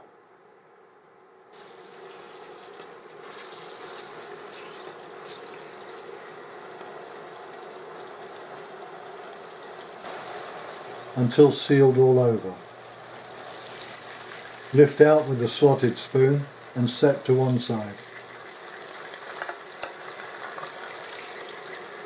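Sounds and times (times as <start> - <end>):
chicken sizzling in hot oil: 1.5 - 22.0.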